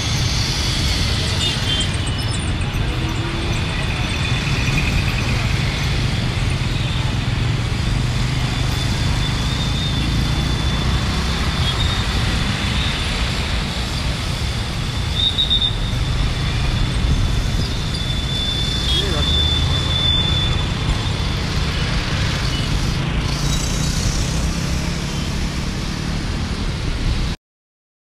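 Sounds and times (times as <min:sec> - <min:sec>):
road traffic rumble: 0:00.0 - 0:27.4.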